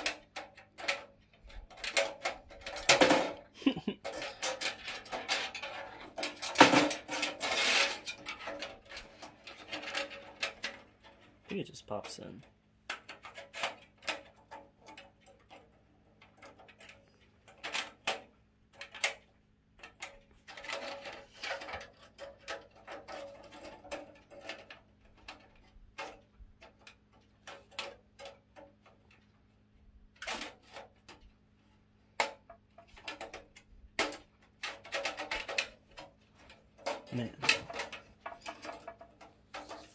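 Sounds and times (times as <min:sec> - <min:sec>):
metal shield clicks and rattles: 0:00.0 - 0:31.4, 0:32.0 - 0:39.9.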